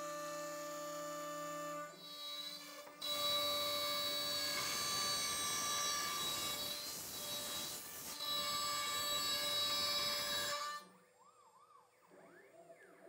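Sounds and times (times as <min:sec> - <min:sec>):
bit rasping through wood: 0:00.0 - 0:10.8
router spindle whining: 0:00.0 - 0:10.9.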